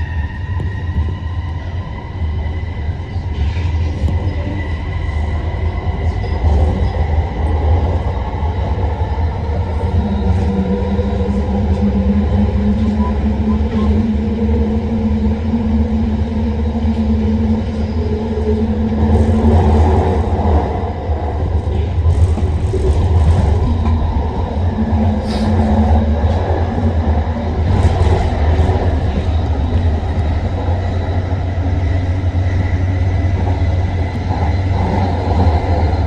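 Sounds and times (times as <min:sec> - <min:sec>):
train low rumble: 0:00.0 - 0:36.0.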